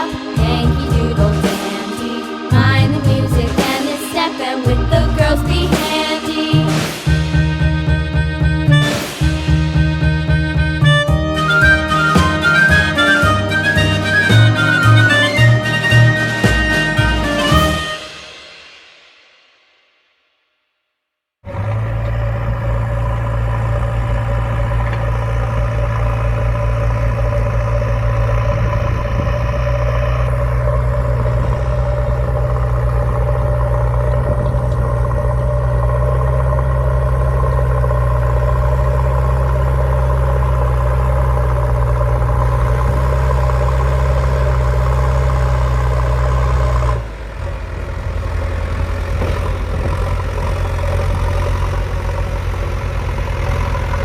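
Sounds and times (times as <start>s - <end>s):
engine humming: 0.0s - 18.2s, 21.4s - 54.0s.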